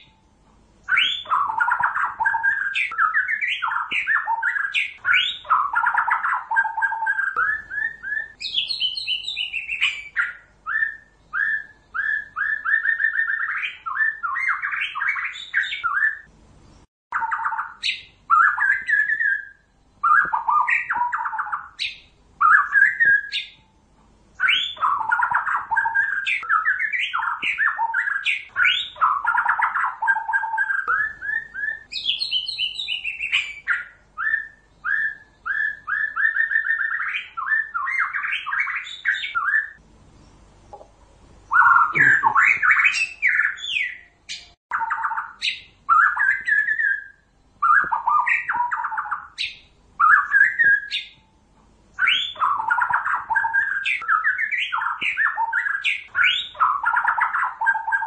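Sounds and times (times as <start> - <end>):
bird singing whistled phrases: 0.8 - 16.3, 17.1 - 23.7, 24.4 - 39.8, 41.5 - 51.3, 52.0 - 58.0.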